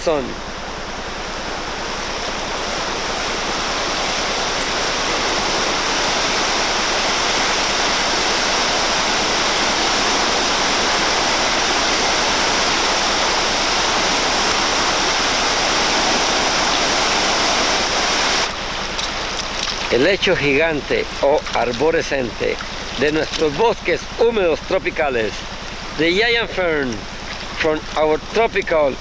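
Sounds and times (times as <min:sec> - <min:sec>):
river rapids roaring: 0:00.0 - 0:29.0.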